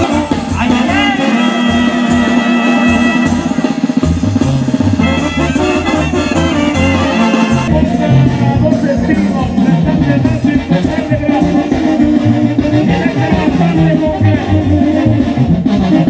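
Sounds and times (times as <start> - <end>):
brass band with drums: 0.0 - 16.0.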